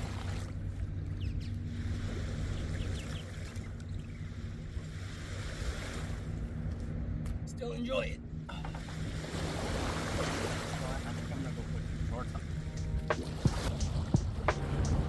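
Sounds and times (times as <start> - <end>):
small waves washing on shore: 0.0 - 6.7, 8.7 - 15.0
steady low hum: 0.0 - 15.0.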